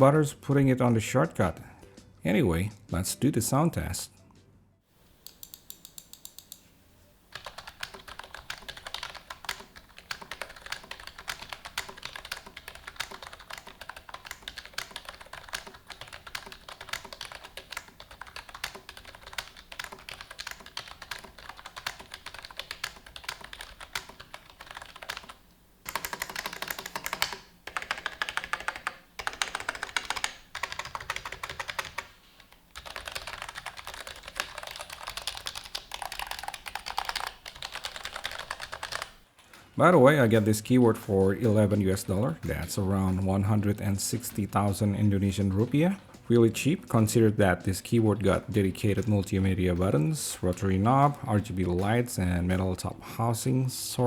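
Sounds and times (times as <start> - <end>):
keyboard typing: 5.2 - 6.7, 7.3 - 39.5, 40.3 - 52.7.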